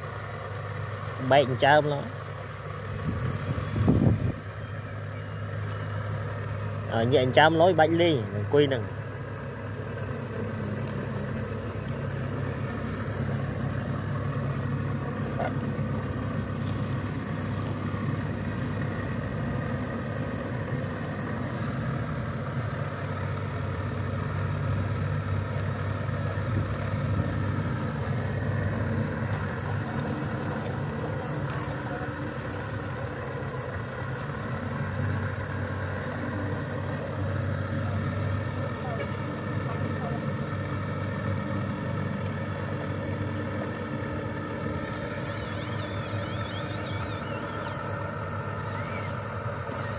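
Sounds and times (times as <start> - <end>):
toy excavator motors humming: 0.0 - 49.9.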